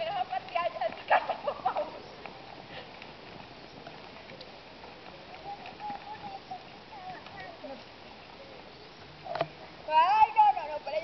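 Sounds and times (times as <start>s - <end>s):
outdoor background noise: 0.0s - 11.0s
voices: 0.0s - 11.0s.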